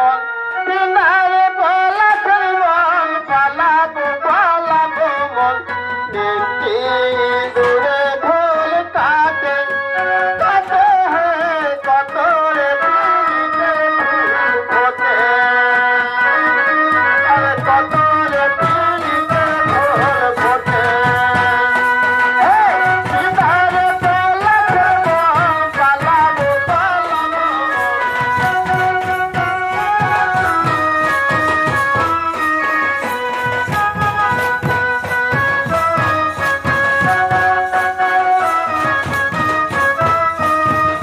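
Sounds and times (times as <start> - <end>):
held melodic accompaniment: 0.0 - 41.0
person singing: 0.0 - 41.0
hand-played barrel drums: 1.9 - 41.0.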